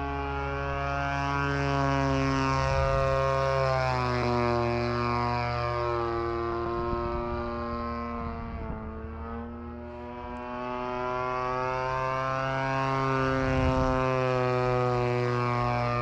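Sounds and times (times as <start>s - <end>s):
model airplane motor: 0.0s - 16.0s.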